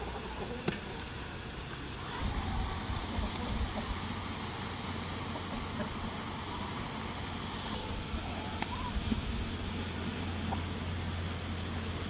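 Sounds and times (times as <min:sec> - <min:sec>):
pot boiling hard: 0:00.0 - 0:12.0.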